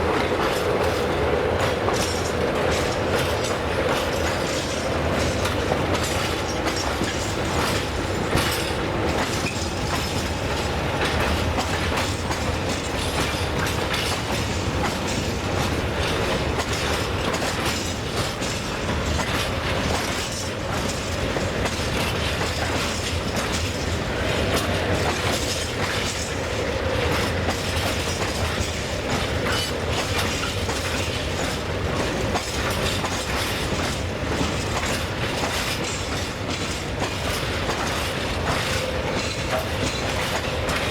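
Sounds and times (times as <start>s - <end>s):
train wheels clattering over rails: 0.0s - 40.9s.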